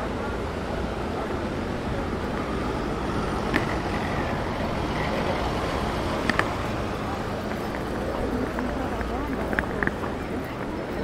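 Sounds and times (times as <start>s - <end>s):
bus engine driving past: 0.0s - 11.0s
street noise: 0.0s - 11.0s.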